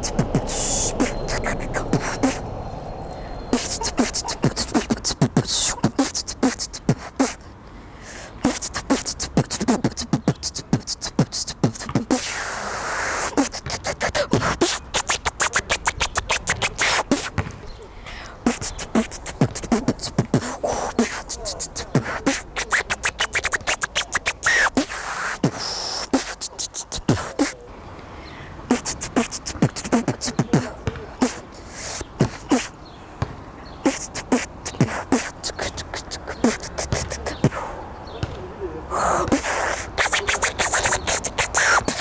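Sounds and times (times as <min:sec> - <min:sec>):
woman beatboxing: 0:00.0 - 0:02.4, 0:03.5 - 0:07.5, 0:08.4 - 0:17.4, 0:18.2 - 0:27.6, 0:28.7 - 0:32.8, 0:33.8 - 0:37.7, 0:38.9 - 0:42.0.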